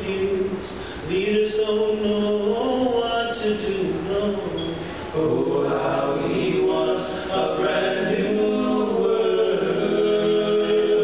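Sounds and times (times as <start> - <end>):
male vocal group singing: 0.0 - 11.0.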